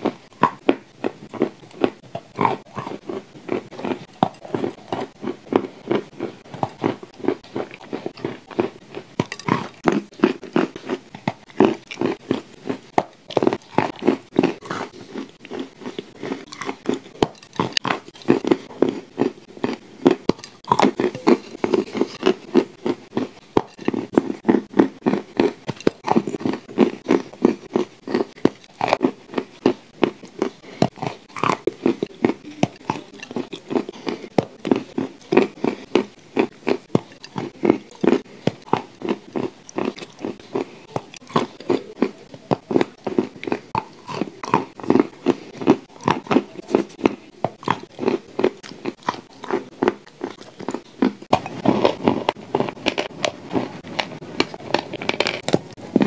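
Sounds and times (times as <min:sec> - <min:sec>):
chewing and crunching cookies: 0:00.0 - 0:56.0.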